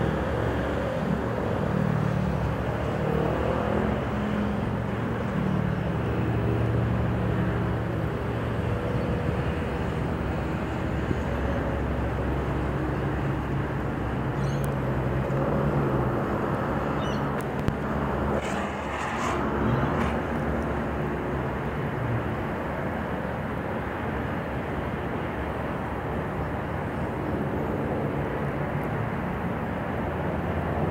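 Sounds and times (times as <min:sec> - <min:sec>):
engine drone: 0:00.0 - 0:30.9
noisy rush: 0:00.0 - 0:30.9.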